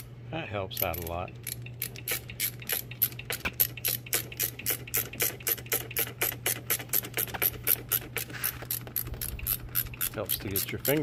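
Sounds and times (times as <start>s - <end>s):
ratchet wrench clicking: 0.7s - 11.0s.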